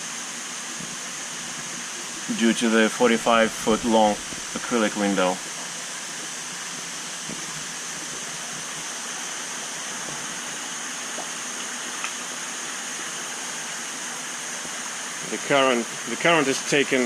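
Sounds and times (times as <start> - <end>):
water rushing in aquarium: 0.0 - 17.0.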